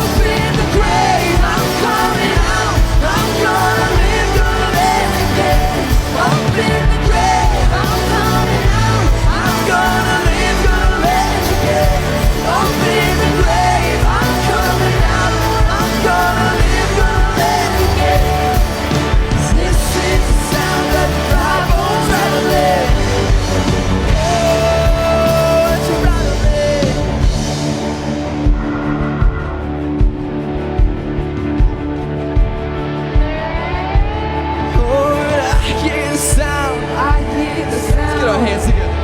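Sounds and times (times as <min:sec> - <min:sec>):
person singing: 0:00.0 - 0:27.6, 0:33.5 - 0:39.0
rock band playing: 0:00.0 - 0:39.0.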